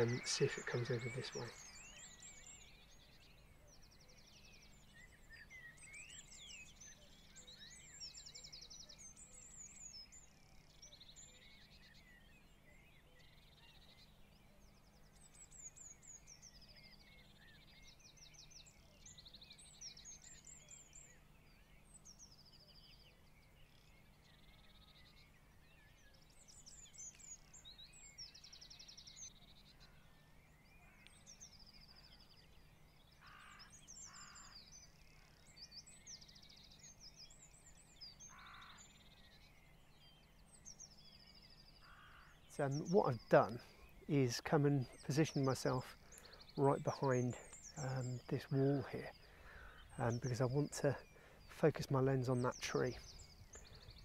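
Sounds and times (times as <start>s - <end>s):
distant songbirds singing: 0.0s - 54.0s
lower bird calls: 0.0s - 54.0s.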